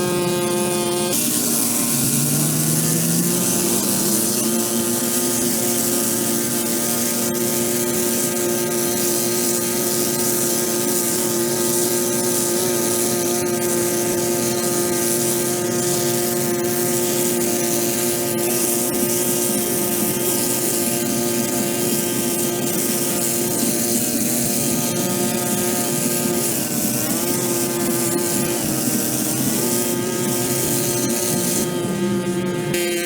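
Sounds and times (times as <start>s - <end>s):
pressure washer running: 0.0s - 33.0s.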